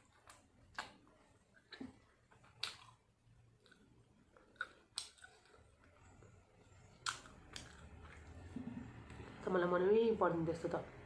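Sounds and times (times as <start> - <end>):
chewing food: 0.0 - 9.4.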